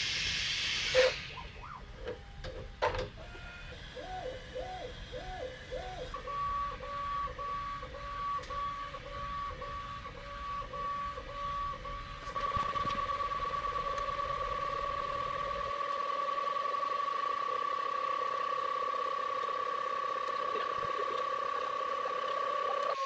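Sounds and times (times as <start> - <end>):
printer stepper motors whining: 0.4 - 23.0.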